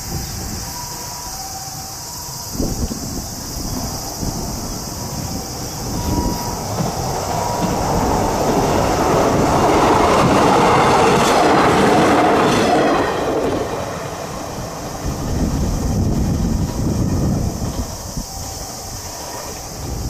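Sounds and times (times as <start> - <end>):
train wheels clattering over rails: 2.4 - 20.0.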